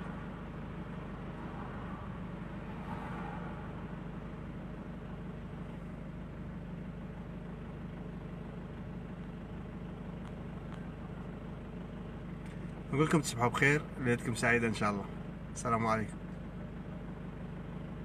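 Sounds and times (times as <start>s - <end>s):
car engine hum from inside: 0.0s - 18.0s.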